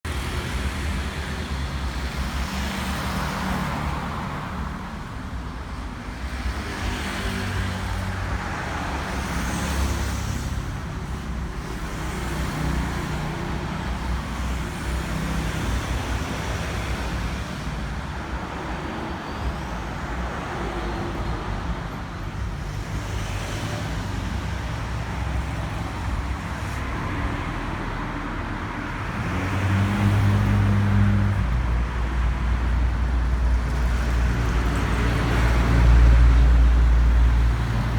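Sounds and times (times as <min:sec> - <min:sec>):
tyre and traffic noise: 0:00.0 - 0:37.9.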